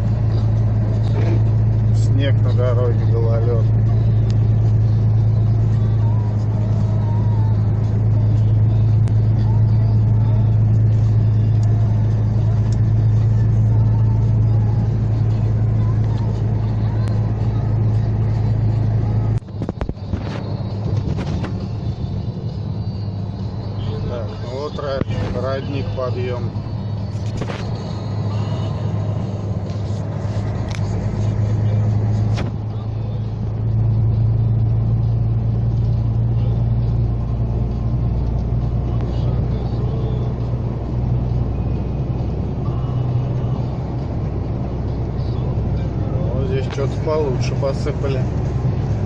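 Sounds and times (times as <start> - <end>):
road noise: 0.0 - 49.0
truck engine droning: 0.0 - 49.0.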